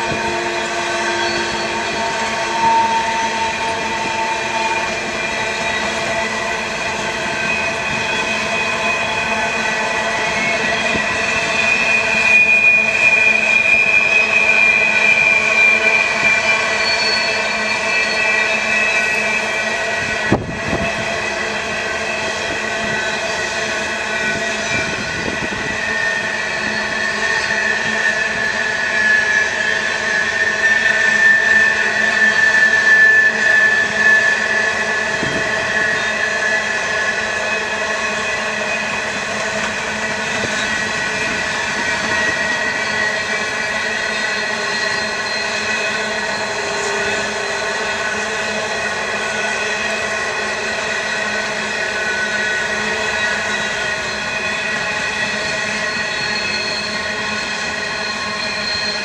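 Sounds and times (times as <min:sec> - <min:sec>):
train wheels squealing on rail: 0:00.0 - 0:59.0.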